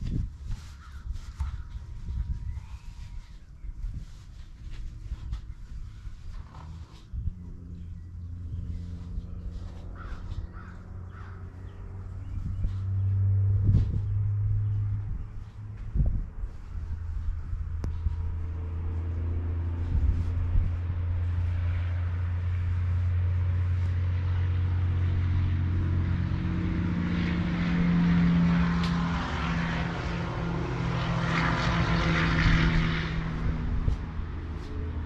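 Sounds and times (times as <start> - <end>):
engine running with low hum: 0.0 - 35.0.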